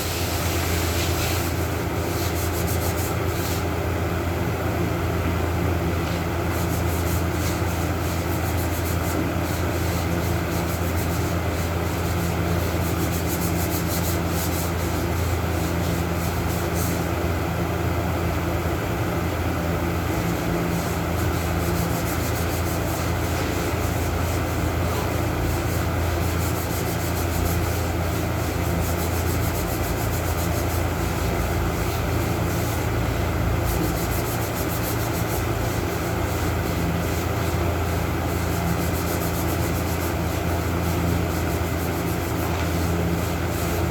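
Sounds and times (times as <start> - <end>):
sanding a surface: 0.0 - 3.6, 6.5 - 17.1, 20.1 - 43.9
steady hum: 0.0 - 43.9.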